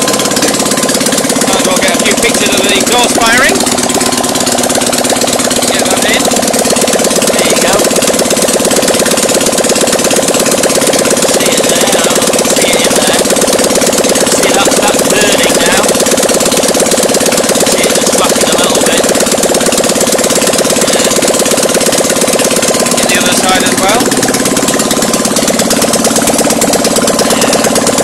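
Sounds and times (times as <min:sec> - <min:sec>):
air-cooled engine running: 0:00.0 - 0:28.0.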